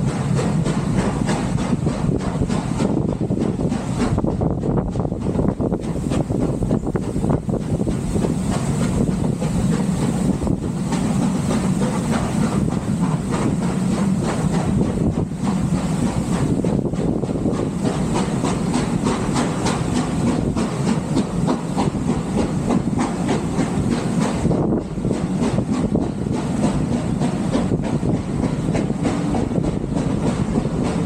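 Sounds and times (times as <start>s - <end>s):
steam hiss: 0.0s - 31.0s
steam train rumbling: 0.0s - 31.0s
wheels clicking on rails: 0.0s - 31.0s.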